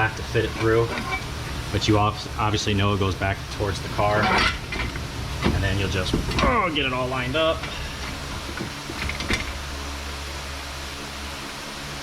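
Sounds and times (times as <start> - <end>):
steady hum and hiss: 0.0 - 12.0.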